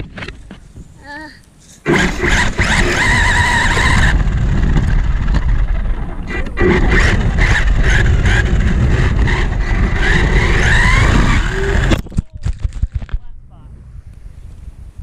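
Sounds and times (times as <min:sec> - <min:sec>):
chassis rumble and rattle: 0:01.8 - 0:14.6.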